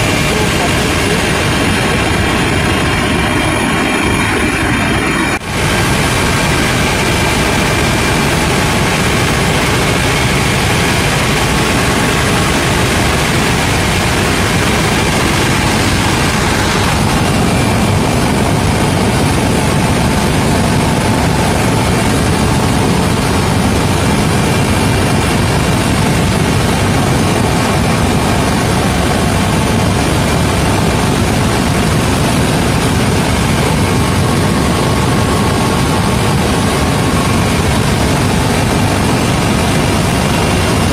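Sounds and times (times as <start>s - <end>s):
faint high whine: 0.0s - 40.9s
helicopter rotor and engine noise: 0.0s - 40.9s.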